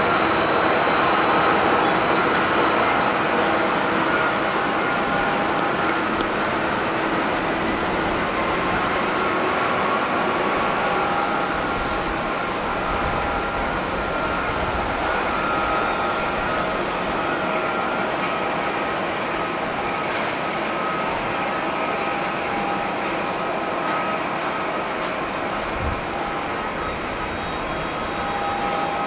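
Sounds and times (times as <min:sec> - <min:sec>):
airliner jet engines roaring: 0:00.0 - 0:29.0.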